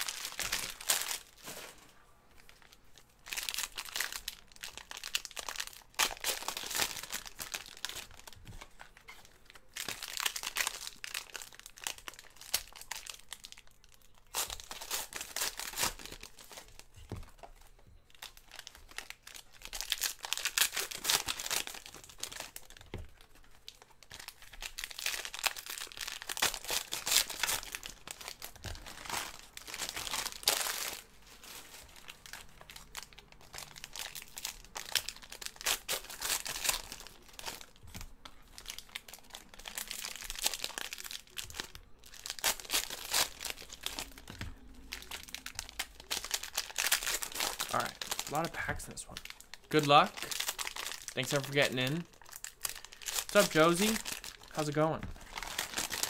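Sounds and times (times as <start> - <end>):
foil wrappers tearing and crinkling: 0.0 - 1.8, 2.5 - 56.0.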